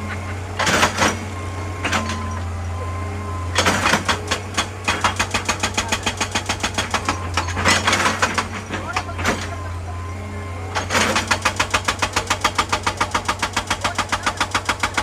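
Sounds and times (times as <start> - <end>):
excavator diesel engine running: 0.0 - 15.0
hydraulic breaker hammering rock: 0.1 - 15.0.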